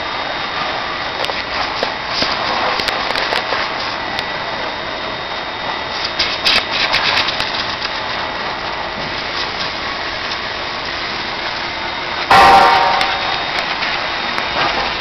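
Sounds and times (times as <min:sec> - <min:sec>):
crackly water spatter: 0:00.1 - 0:15.0
pressure washer spraying metal: 0:00.1 - 0:15.0.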